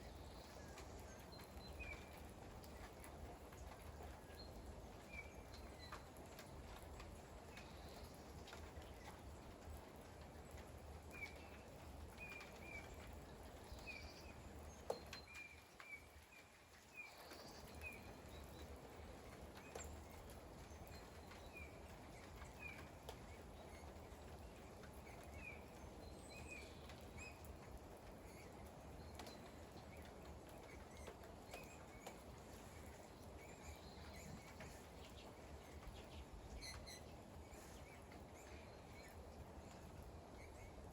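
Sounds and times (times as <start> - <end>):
faint steady rain: 0.0 - 40.9.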